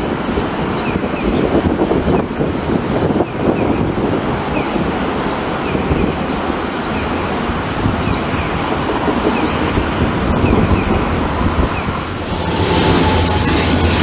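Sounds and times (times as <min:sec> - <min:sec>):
wind on microphone: 0:00.0 - 0:14.0
city road traffic: 0:01.5 - 0:14.0.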